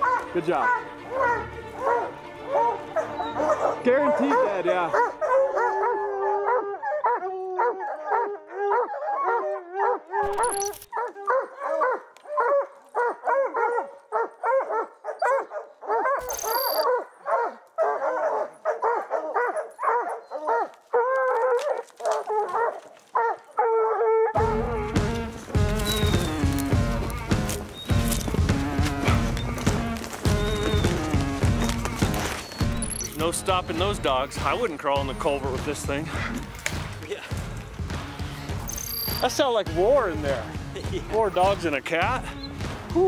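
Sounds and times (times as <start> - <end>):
hounds baying and barking: 0.0 - 39.3.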